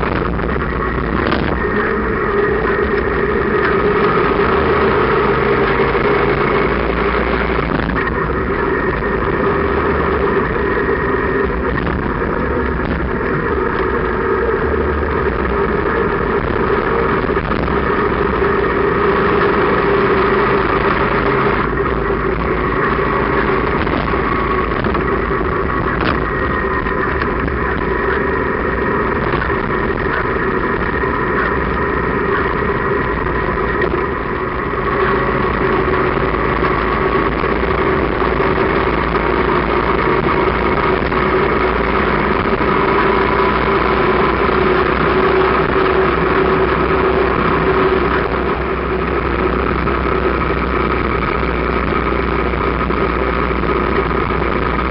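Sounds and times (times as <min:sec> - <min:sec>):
motorcycle engine running: 0:00.0 - 0:54.9
wind noise on microphone: 0:00.0 - 0:54.9.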